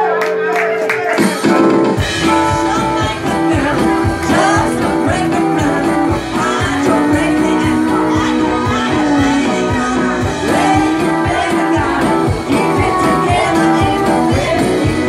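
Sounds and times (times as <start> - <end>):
electric guitars: 0.0 - 15.0
drum kit beat: 0.8 - 15.0
woman singing: 2.2 - 15.0.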